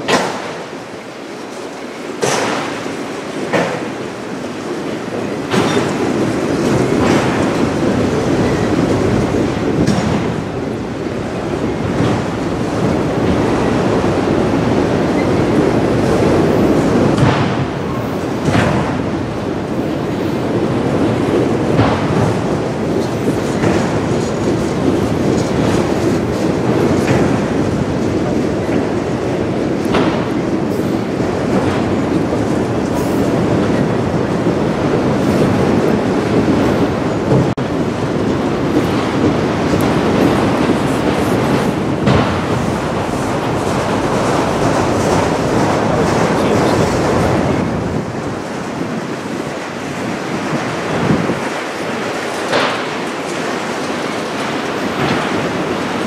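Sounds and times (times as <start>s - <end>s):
steel train wheels rumbling on rail: 0.0s - 56.0s.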